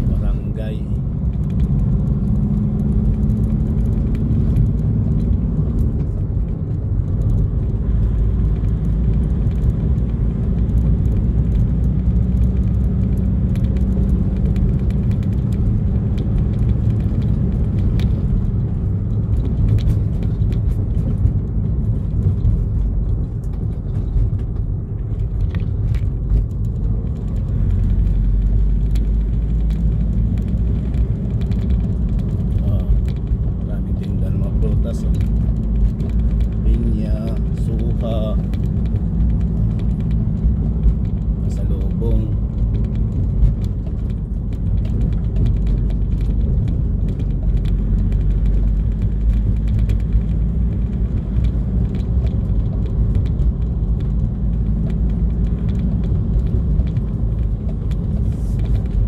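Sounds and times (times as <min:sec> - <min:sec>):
faint engine hum: 0:00.0 - 0:59.0
vehicle engine and tyres rumbling: 0:00.0 - 0:59.0.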